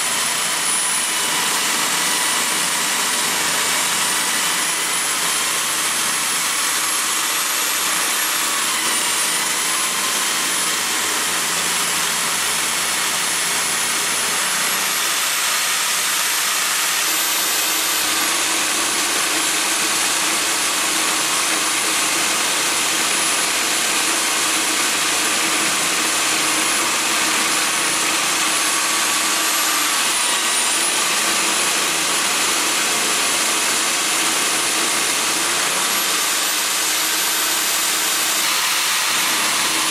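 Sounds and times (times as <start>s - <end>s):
drill driven end mill cutting metal: 0.0s - 39.9s.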